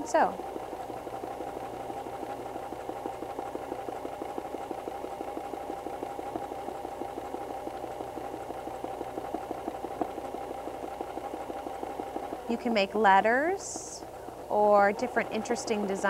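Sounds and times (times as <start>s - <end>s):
sewing machine running: 0.0s - 16.0s.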